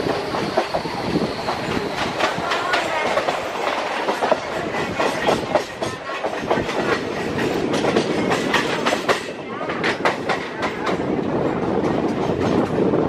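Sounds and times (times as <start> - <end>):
train running noise: 0.0 - 13.0
train wheels clattering over joints: 0.0 - 13.0.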